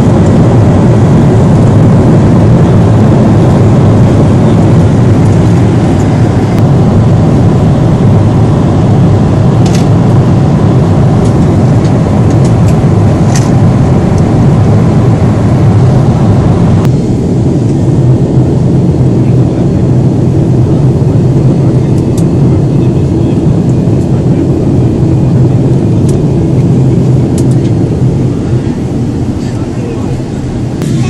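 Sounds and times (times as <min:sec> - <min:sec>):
airliner cabin engine rush: 0:00.0 - 0:31.0.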